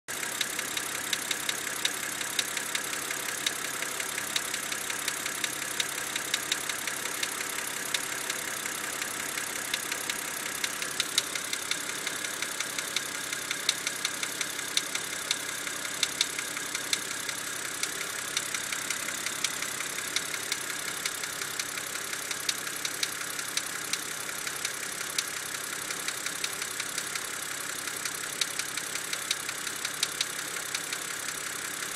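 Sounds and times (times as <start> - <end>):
car engine idling: 0.1 - 31.9
sharp uneven engine ticking: 0.1 - 31.9.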